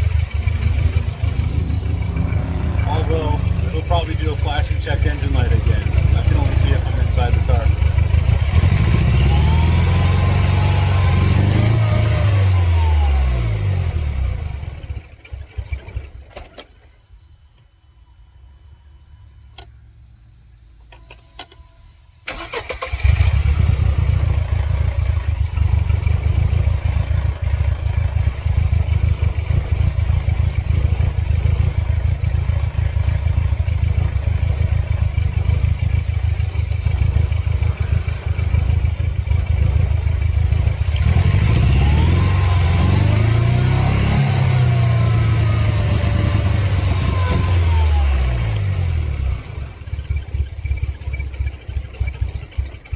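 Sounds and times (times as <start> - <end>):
engine revving: 0.0 - 16.0, 22.3 - 50.8
car engine starting and running: 0.0 - 52.9.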